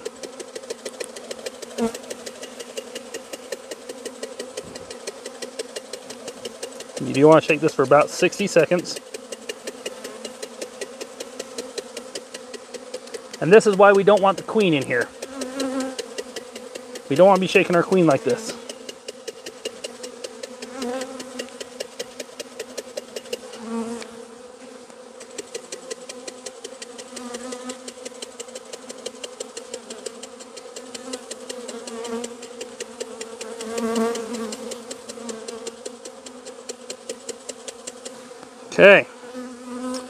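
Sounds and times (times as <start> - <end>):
rapid tapping of shaken jar: 0.0 - 23.7, 25.2 - 38.2
bees buzzing: 0.0 - 40.0.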